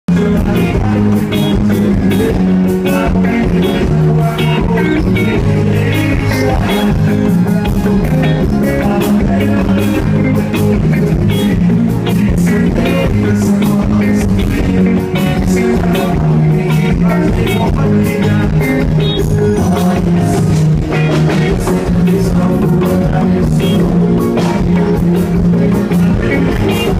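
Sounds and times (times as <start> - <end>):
drums: 0.1 - 26.9
guitars: 0.1 - 26.9
live band music: 0.1 - 26.9
two people singing through speakers: 0.1 - 26.9.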